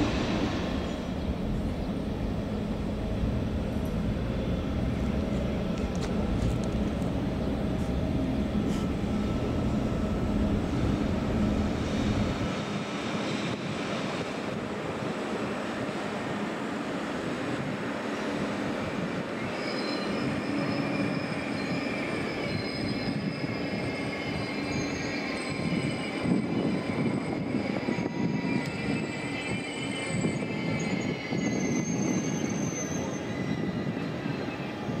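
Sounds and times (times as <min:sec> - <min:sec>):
train wheels squealing on rails: 0:00.0 - 0:02.1, 0:03.7 - 0:35.0
train rolling rumble: 0:00.0 - 0:35.0.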